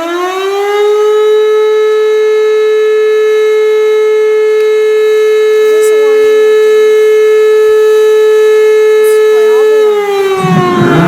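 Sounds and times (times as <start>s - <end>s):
tornado siren: 0.0s - 11.0s.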